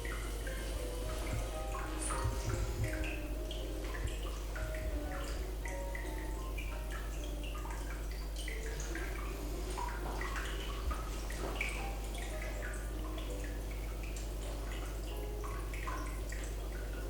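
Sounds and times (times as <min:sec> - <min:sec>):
steady low hum: 0:00.0 - 0:17.0
water dripping and trickling: 0:00.0 - 0:17.0.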